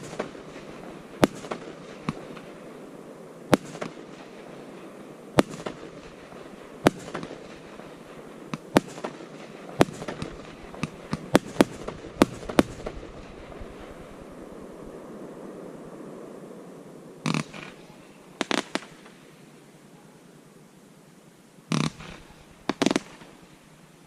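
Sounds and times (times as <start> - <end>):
fireworks bangs: 0.0 - 19.6, 21.7 - 23.8
continuous hiss: 0.0 - 24.0.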